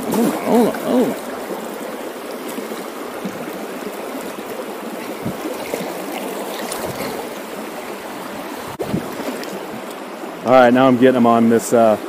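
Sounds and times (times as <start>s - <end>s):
river running over gravel: 0.0s - 11.8s.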